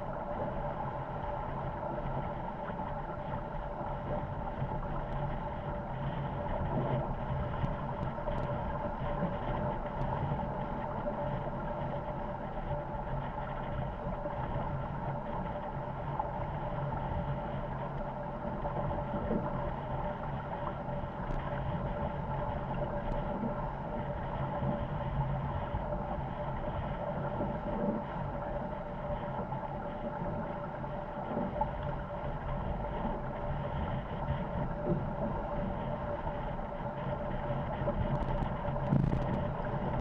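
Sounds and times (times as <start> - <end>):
faint steady hum: 0.0 - 40.0
water rushing along hulls: 0.0 - 40.0.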